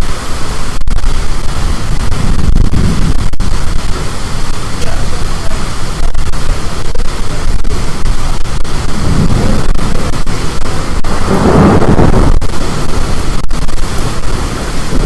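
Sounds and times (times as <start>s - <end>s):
storm wind blasting microphone: 0.0s - 15.0s.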